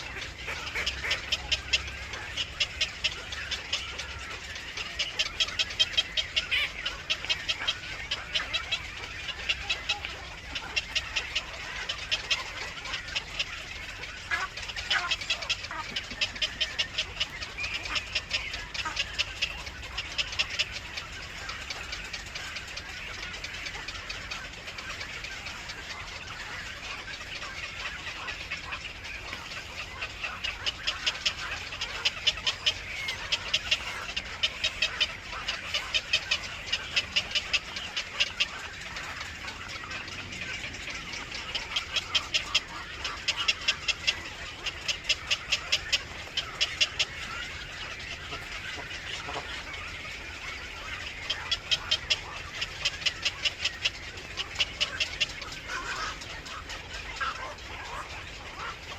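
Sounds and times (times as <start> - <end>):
baby birds chirping: 0.0 - 58.9.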